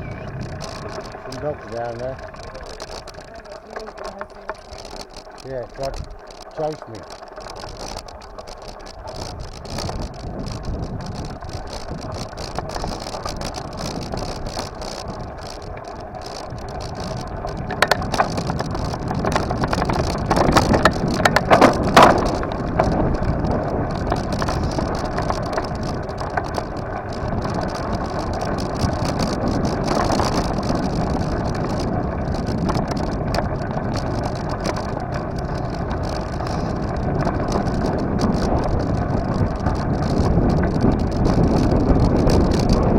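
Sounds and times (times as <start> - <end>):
bicycle rattles and knocks: 0.0 - 42.9
bicycle tyres and wind rumble: 0.0 - 42.9.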